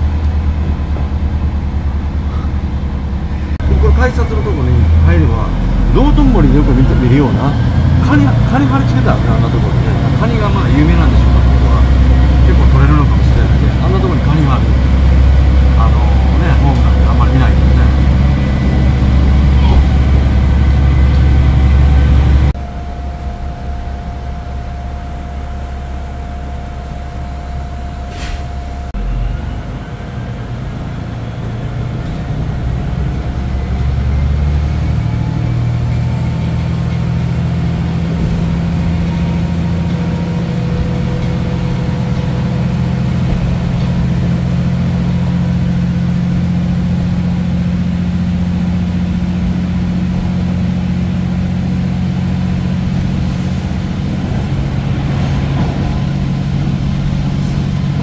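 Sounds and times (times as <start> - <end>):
diesel train engine humming: 0.0 - 58.0.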